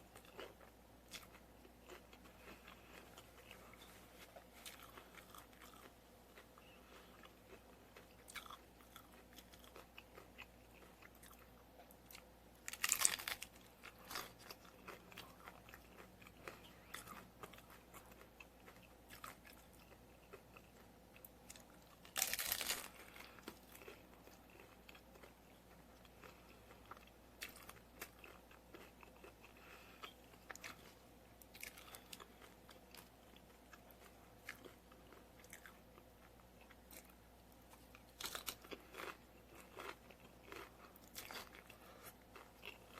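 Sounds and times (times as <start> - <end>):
quiet chewing: 0.1 - 42.9
crunching taco shell bites: 7.1 - 42.9.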